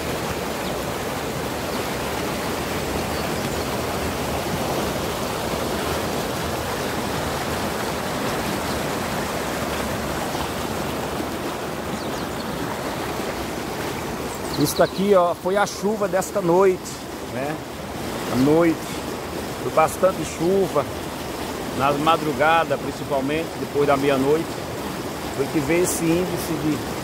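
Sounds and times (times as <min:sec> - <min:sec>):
floodwater rushing from culvert: 0:00.0 - 0:27.0.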